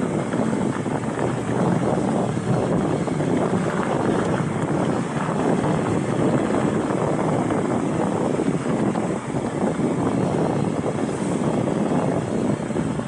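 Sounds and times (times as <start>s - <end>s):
bike tyres rolling over dirt: 0.0s - 13.0s
wind buffeting microphone: 0.0s - 13.0s.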